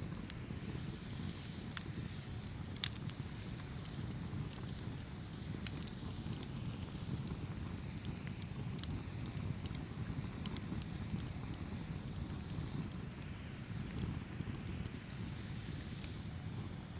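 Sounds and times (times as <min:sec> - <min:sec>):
campfire rumble: 0:00.0 - 0:16.9
wood crackling and popping: 0:00.0 - 0:16.9.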